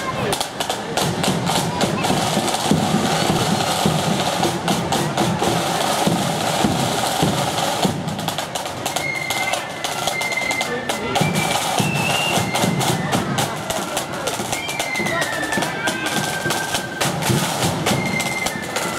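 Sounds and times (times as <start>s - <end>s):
marching flute band: 0.0s - 18.9s
snare drums rattling: 0.0s - 18.9s
steady drum beat: 0.0s - 18.9s.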